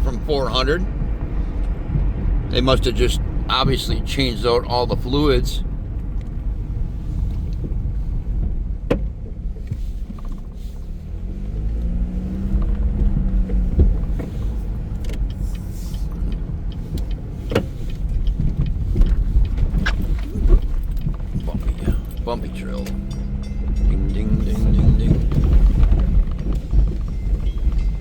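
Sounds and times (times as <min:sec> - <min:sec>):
car engine: 0:00.0 - 0:28.0
car rumbling over bumpy track: 0:00.0 - 0:28.0.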